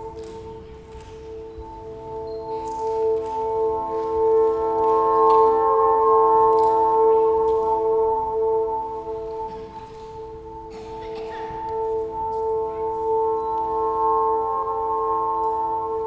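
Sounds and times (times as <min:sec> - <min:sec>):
ringing drone music: 0:00.0 - 0:16.0.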